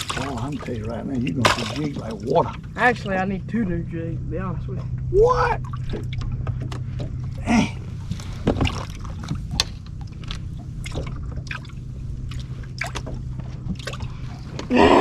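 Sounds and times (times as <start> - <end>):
small waves lapping against boat hull: 0.0 - 15.0
steady low hum: 0.0 - 15.0.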